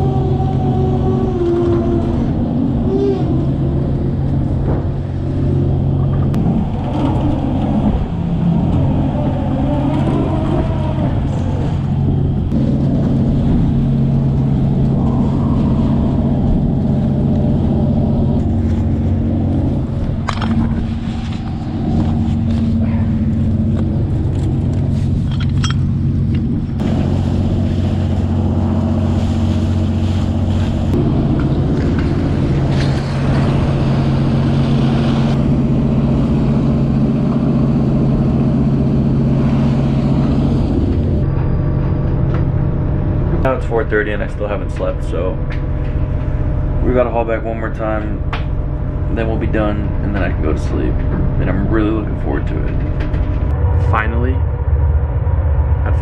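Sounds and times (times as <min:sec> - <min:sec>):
boat engine drone: 0:00.0 - 0:56.0.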